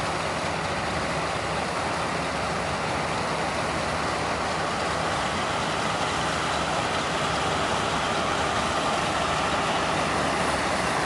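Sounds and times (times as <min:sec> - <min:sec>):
farm machine engine running: 0:00.0 - 0:11.0.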